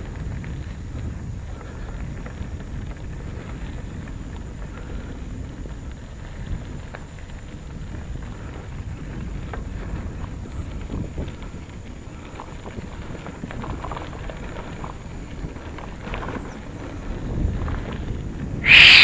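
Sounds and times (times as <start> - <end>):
gravel ticks and crunches: 0.0 - 18.6
bicycle tyres on dirt track: 0.0 - 19.0
wind rumble on microphone: 0.0 - 19.0.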